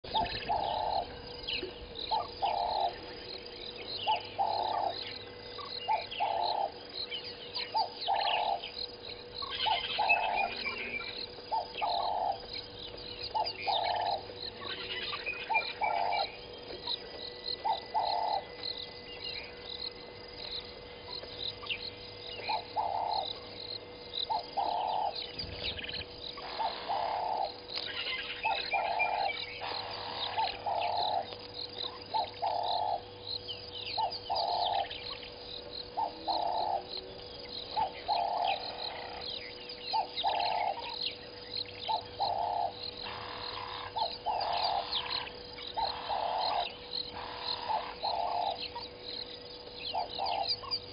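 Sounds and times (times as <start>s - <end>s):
bird low call: 0.0s - 50.9s
birds chirping and twittering: 0.0s - 50.9s
faint steady hum: 0.0s - 50.9s.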